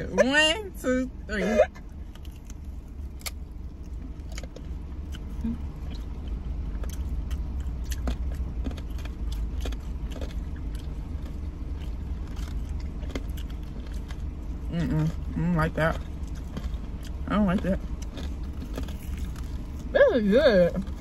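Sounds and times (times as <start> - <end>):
steady low rumble: 0.0 - 21.0
people crunching crispy food: 2.0 - 20.0.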